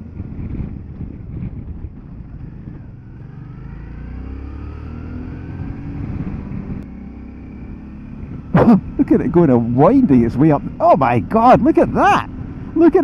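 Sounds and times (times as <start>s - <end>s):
motorcycle engine accelerating: 0.0s - 13.0s
wind and road rumble: 0.0s - 13.0s.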